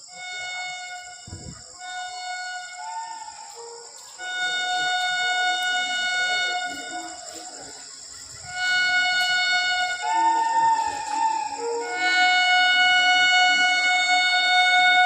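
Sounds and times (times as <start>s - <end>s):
train horn blasts: 0.0s - 7.6s, 8.4s - 15.0s.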